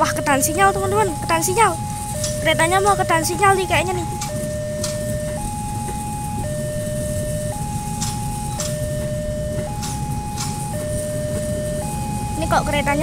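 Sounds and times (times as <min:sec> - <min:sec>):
steady low rumble: 0:00.0 - 0:13.0
two-tone warning siren: 0:00.0 - 0:13.0.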